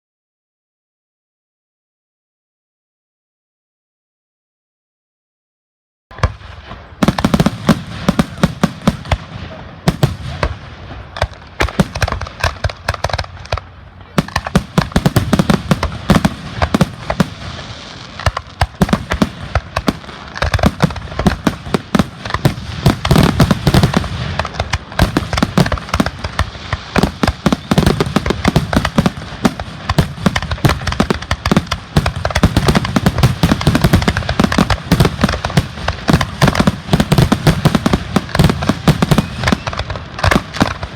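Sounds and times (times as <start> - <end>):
deep fireworks booms: 6.1 - 40.9
fireworks bangs and crackles: 6.1 - 40.9.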